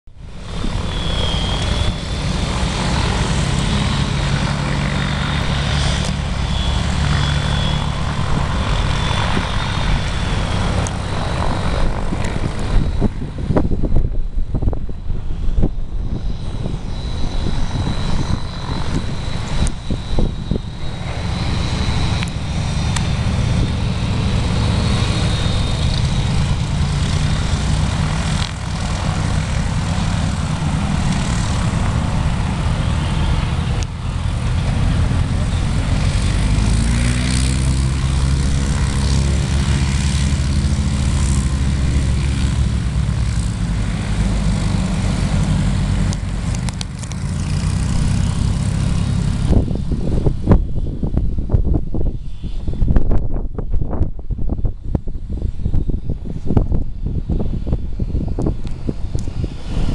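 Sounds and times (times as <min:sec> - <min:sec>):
light airplane propeller roar: 0:00.0 - 0:59.9.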